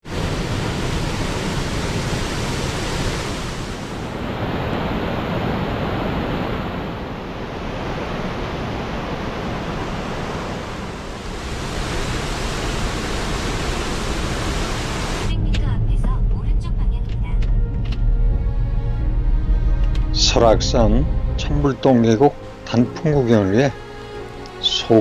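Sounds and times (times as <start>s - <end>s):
water rushing: 0.0s - 15.3s, 18.6s - 25.0s.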